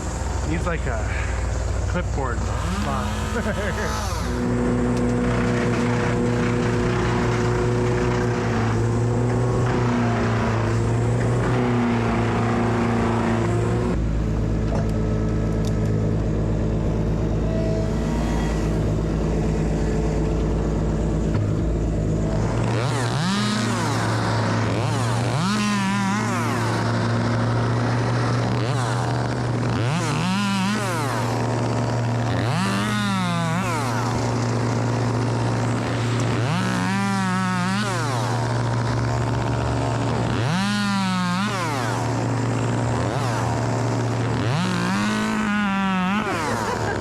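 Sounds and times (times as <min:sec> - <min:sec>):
engine running and revving: 0:00.0 - 0:47.0.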